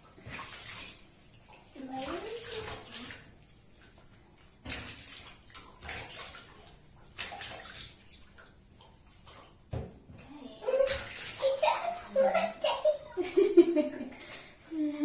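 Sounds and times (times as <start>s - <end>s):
water splashing in a bathtub: 0.0s - 15.0s.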